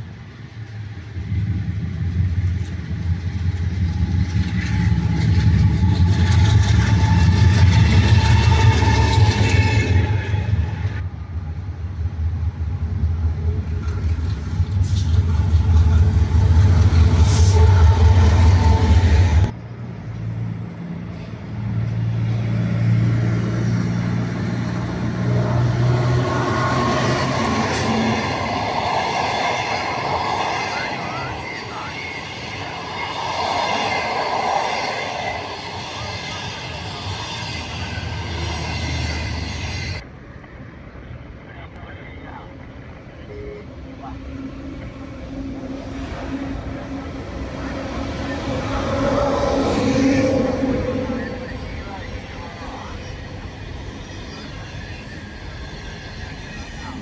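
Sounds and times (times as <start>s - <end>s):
train wheel noise: 0.0s - 40.6s, 44.0s - 57.0s
electric locomotive passing: 0.0s - 57.0s
train rumble: 0.0s - 57.0s.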